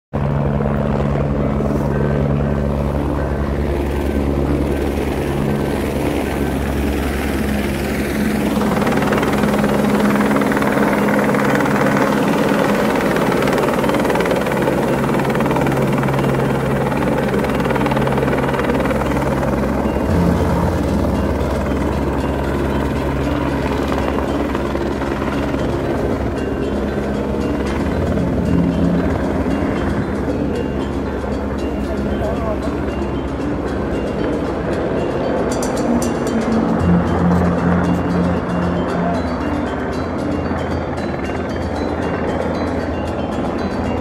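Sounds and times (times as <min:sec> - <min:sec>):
helicopter rotor and turbine drone: 0:00.2 - 0:44.0.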